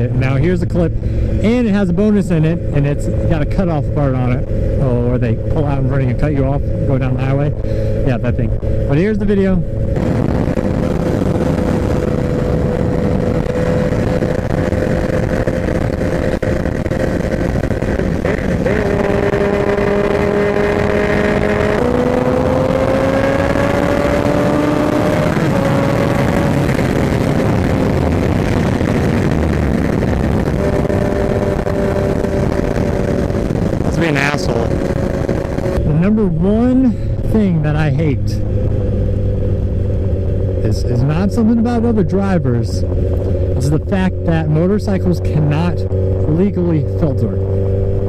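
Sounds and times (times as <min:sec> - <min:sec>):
motorcycle engine at speed: 0:00.0 - 0:48.0
wind rush on microphone: 0:00.0 - 0:48.0.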